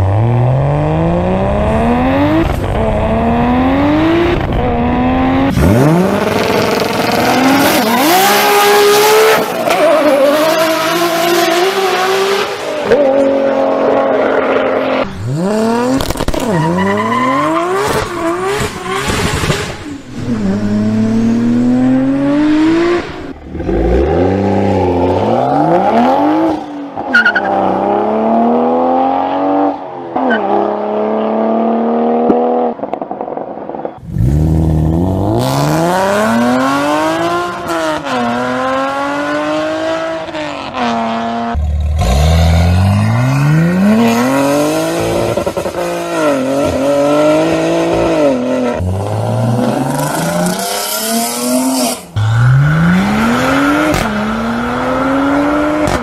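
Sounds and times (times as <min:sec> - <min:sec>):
car engines revving and accelerating: 0:00.0 - 0:56.0.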